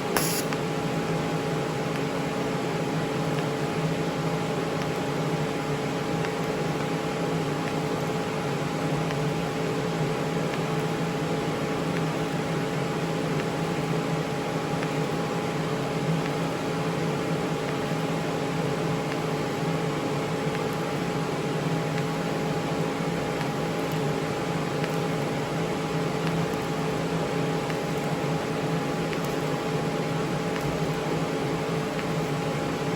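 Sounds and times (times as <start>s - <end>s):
welding machine hum and hiss: 0.0s - 32.9s.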